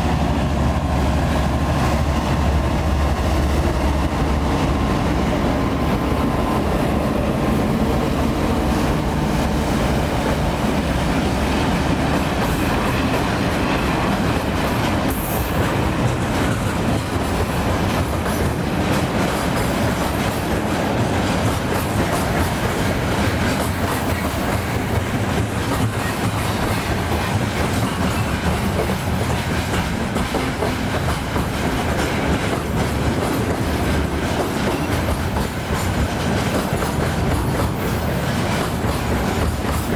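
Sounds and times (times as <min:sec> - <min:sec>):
diesel locomotive engine drone: 0:00.0 - 0:39.9
train wheels clattering over rail joints: 0:01.7 - 0:39.9.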